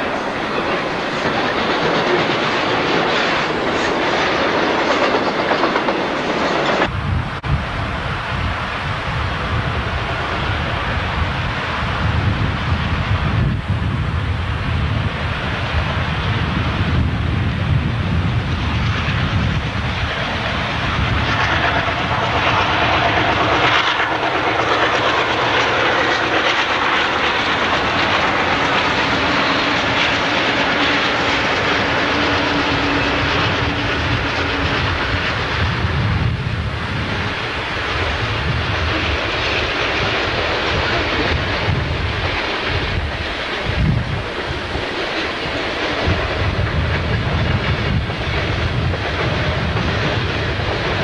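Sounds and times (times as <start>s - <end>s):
steel wheels on rails: 0.0s - 6.9s, 14.7s - 51.0s
diesel locomotive rumble: 0.0s - 51.0s.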